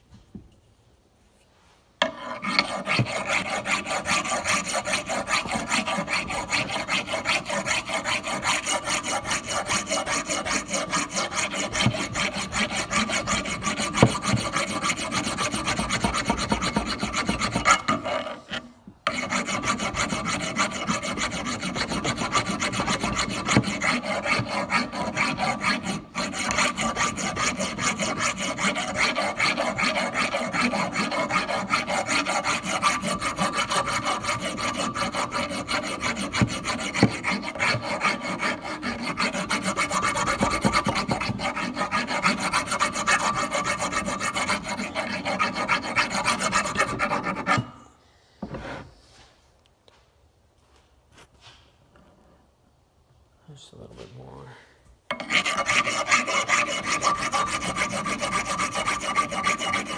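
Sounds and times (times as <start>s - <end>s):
file rasping on steel: 2.0s - 47.9s, 55.1s - 59.9s.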